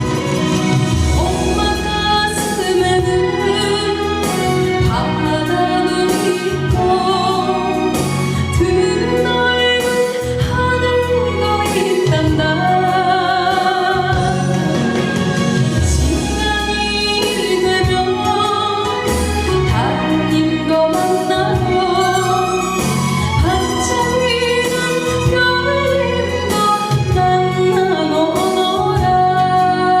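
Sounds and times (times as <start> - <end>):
band accompaniment: 0.0 - 30.0
woman singing with vibrato: 1.0 - 30.0.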